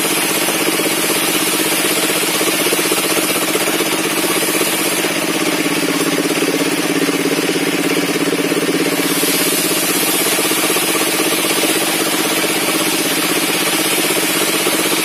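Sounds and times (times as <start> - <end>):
circular saw running: 0.0 - 15.0.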